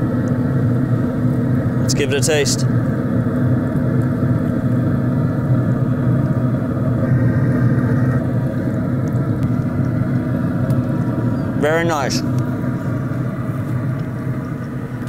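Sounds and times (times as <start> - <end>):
blower fan hum and rumble: 0.0 - 15.0.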